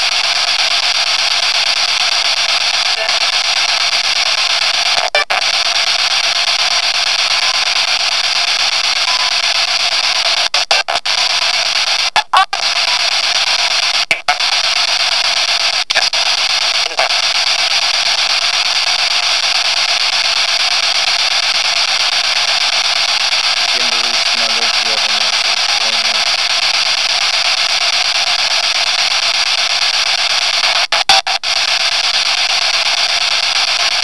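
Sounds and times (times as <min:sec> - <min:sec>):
loud hissing radio static: 0:00.0 - 0:34.0.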